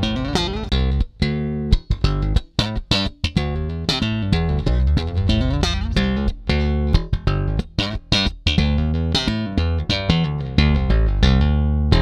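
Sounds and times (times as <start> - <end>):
slap bass notes: 0.0 - 12.0.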